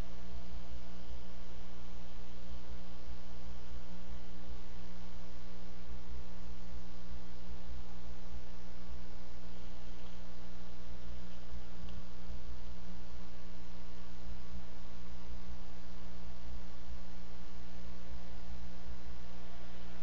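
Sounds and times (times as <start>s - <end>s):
constant hiss: 0.0s - 20.0s
steady electrical hum: 0.0s - 20.0s.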